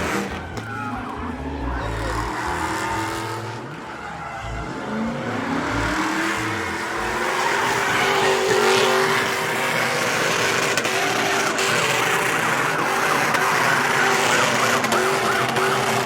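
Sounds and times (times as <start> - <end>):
tyres squealing: 0.0 - 16.0
vehicle engine revving: 0.0 - 16.0.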